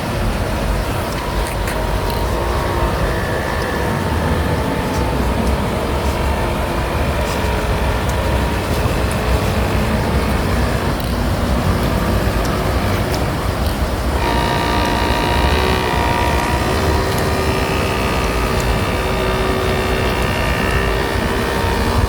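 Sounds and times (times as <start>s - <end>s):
heavy low rumble: 0.0s - 22.0s
model boat motor whining: 0.0s - 22.0s.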